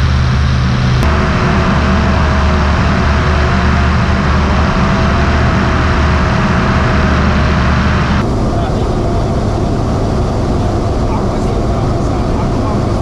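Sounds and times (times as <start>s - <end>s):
aircraft engine and propeller drone: 0.0s - 13.0s
airflow rushing over camera: 0.2s - 13.0s.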